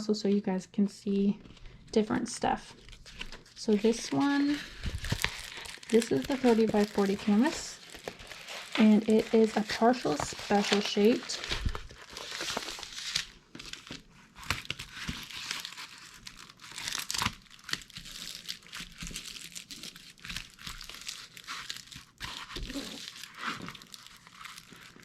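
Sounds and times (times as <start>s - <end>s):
plastic packaging crinkling: 2.5s - 25.0s.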